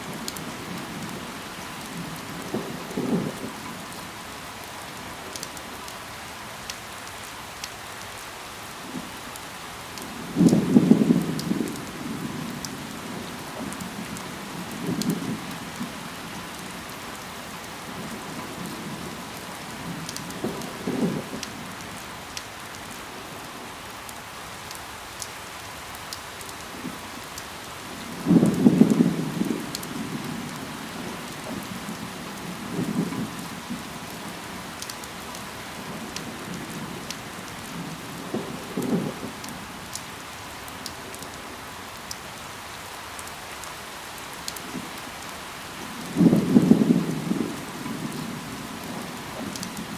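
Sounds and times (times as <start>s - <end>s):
steady rain: 0.0s - 49.9s.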